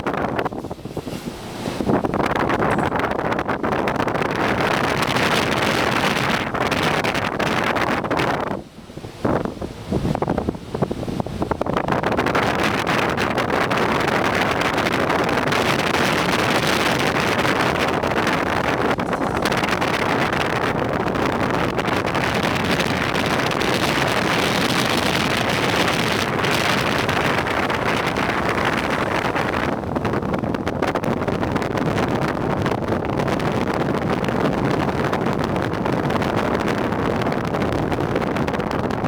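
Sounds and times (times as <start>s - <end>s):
rough sea waves: 0.0s - 39.0s
storm wind buffeting microphone: 0.0s - 39.0s.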